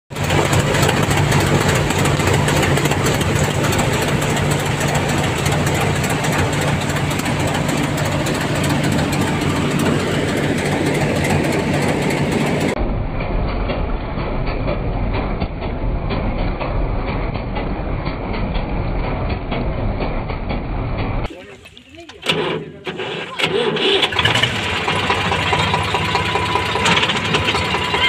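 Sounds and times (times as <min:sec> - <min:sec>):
deep machine rumble: 0:00.1 - 0:28.0
thresher mechanical hum: 0:00.1 - 0:28.0.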